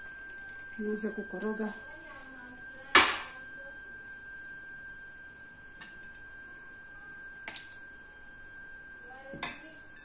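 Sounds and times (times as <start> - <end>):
faint high-pitched tone: 0.0 - 10.0.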